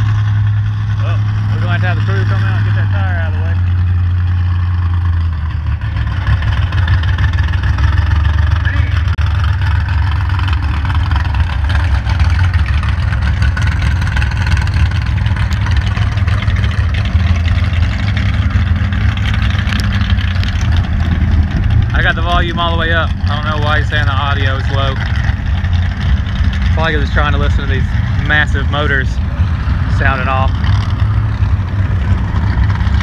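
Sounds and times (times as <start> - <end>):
truck engines rumbling: 0.0 - 33.0.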